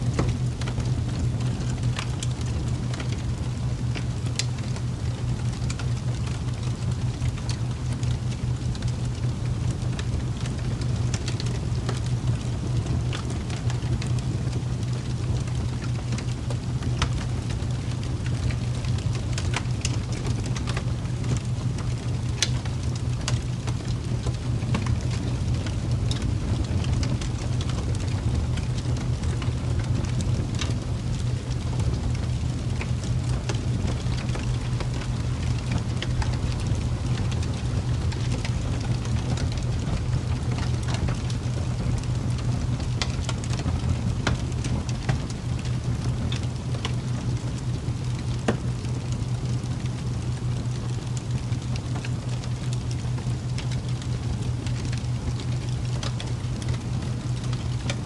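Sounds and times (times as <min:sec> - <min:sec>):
crackles and ticks: 0:00.0 - 0:58.0.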